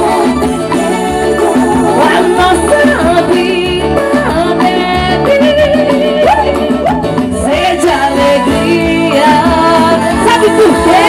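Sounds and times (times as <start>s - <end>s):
live band music with accordion: 0.0s - 11.0s
woman singing: 0.0s - 11.0s.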